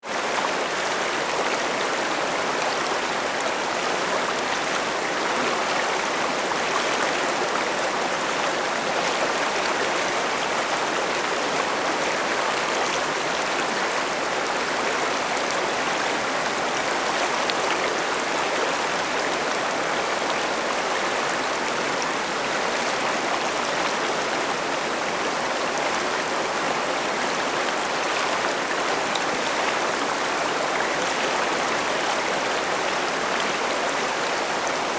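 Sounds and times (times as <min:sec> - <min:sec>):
river running over rocks: 0:00.1 - 0:34.9.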